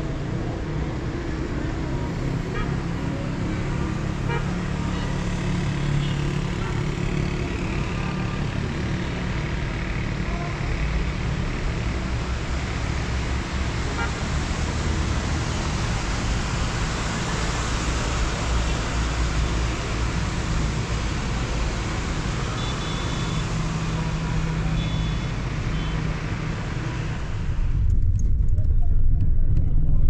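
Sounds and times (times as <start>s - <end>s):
city road traffic: 0.0s - 30.0s.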